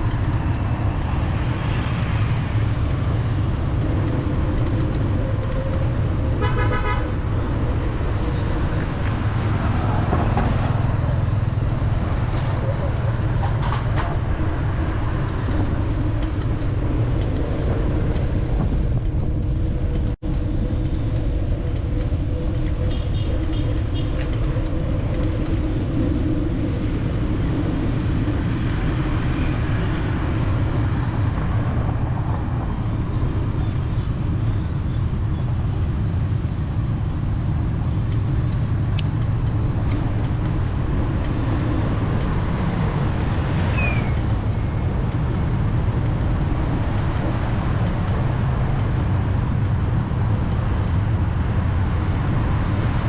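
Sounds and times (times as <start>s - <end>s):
city street traffic: 0.0s - 53.0s.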